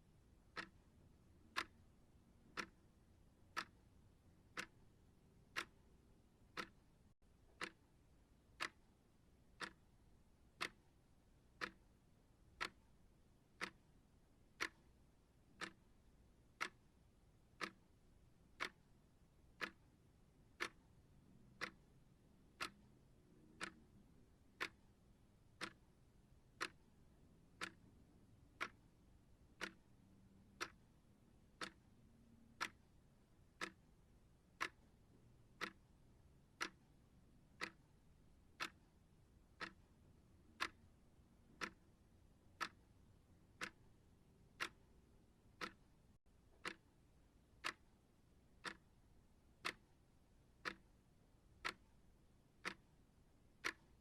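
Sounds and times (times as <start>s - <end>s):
faint background hiss: 0.0s - 54.0s
clock ticking: 0.4s - 54.0s.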